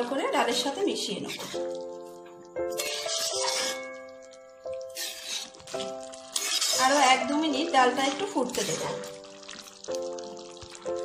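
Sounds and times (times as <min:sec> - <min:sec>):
soft background music chords: 0:00.0 - 0:11.0.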